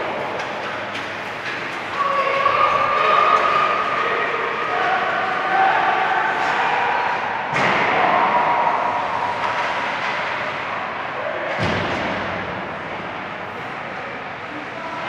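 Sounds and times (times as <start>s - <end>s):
ice rink noise: 0.0s - 15.0s.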